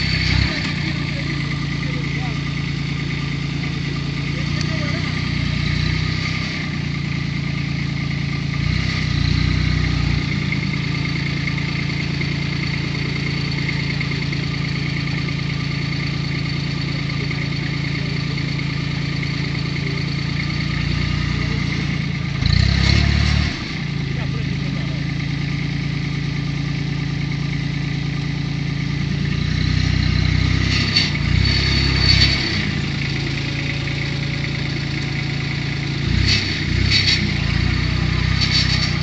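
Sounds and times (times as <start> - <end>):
diesel tractor engine running: 0.0 - 39.0.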